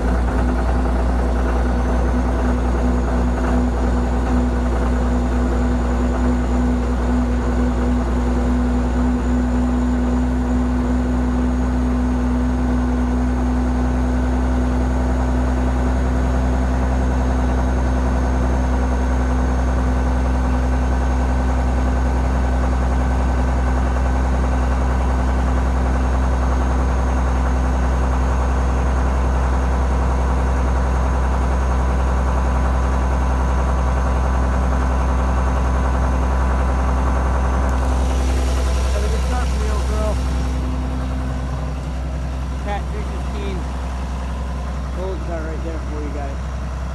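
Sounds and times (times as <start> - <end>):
excavator diesel engine idling: 0.0 - 46.9.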